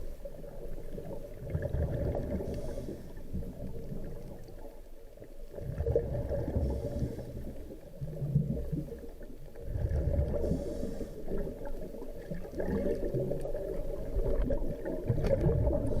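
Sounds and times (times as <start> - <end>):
faint steady hum: 0.0 - 16.0
surging underwater water noise: 0.0 - 16.0.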